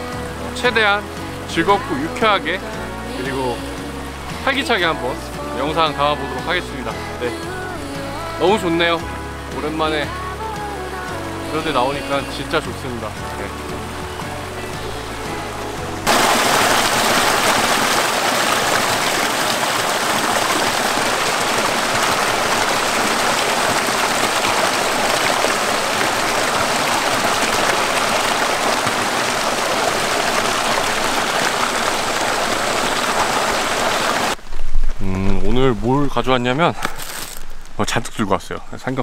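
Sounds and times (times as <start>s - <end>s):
stream rushing over rocks: 0.0s - 37.9s.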